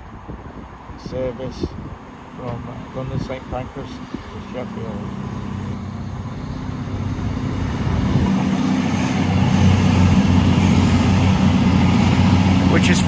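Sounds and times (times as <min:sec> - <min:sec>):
diesel train engine drone: 0:00.0 - 0:13.0.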